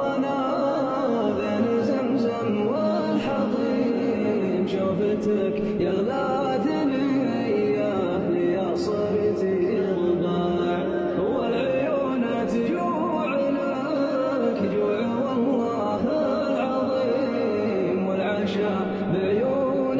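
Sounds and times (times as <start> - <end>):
person singing a wavering melody: 0.0 - 19.9.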